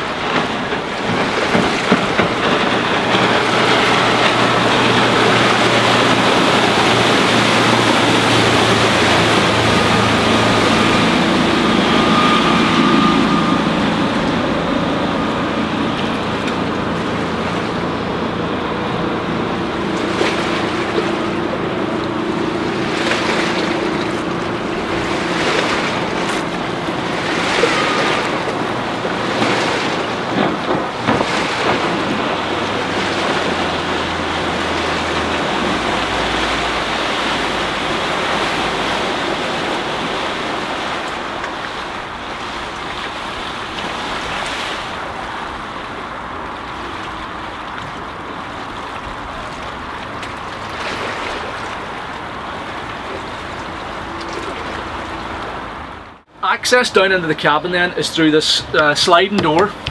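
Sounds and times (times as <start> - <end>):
wind buffeting microphone: 0.0 - 56.2
distant boat diesel engine: 0.0 - 59.9
water washing: 0.0 - 59.9.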